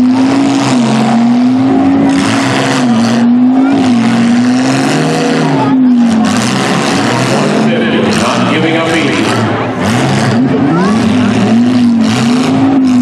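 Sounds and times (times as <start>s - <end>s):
engine noise: 0.0s - 13.0s
high-revving car engine drone: 0.0s - 13.0s.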